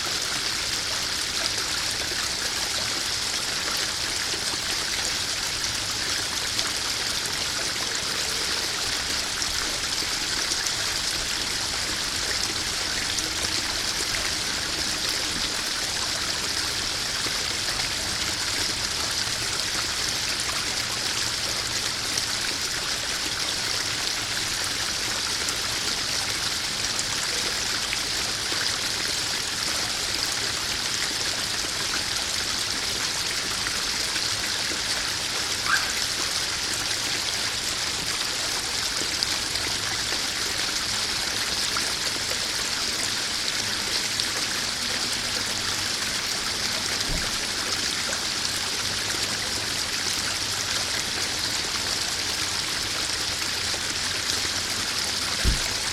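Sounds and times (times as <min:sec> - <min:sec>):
waterfall splashing into pond: 0:00.0 - 0:55.9.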